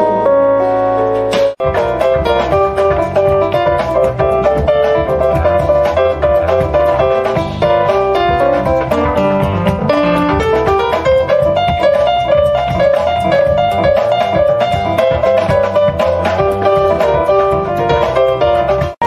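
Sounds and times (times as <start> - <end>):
double bass: 0.0 - 19.0
keyboard piano melody: 0.0 - 19.0.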